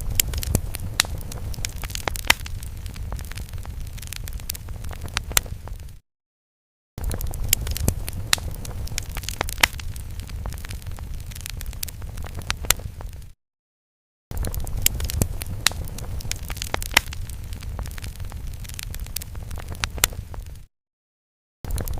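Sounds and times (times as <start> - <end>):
fire crackling and popping: 0.0 - 6.0, 7.0 - 13.4, 14.3 - 20.7, 21.7 - 21.9
low fire rumble: 0.0 - 6.0, 7.0 - 13.4, 14.3 - 20.7, 21.7 - 21.9.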